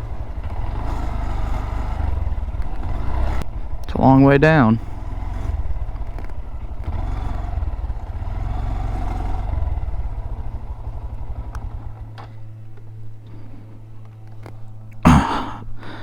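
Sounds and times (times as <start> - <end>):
small motorcycle engine: 0.0 - 15.2.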